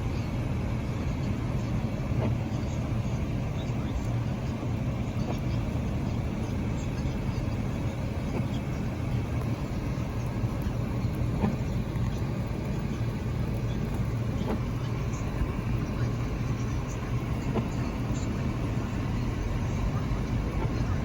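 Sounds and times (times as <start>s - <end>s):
car driving rumble: 0.0s - 21.0s.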